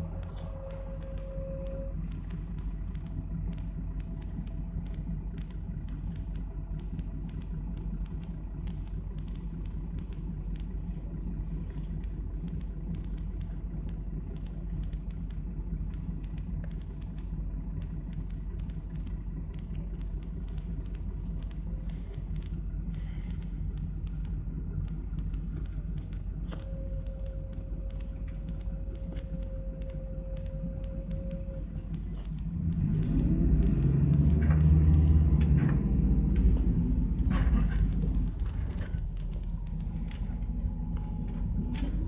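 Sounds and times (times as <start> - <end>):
bus rumbling: 0.0 - 42.0
light rattles and clicks: 0.0 - 42.0.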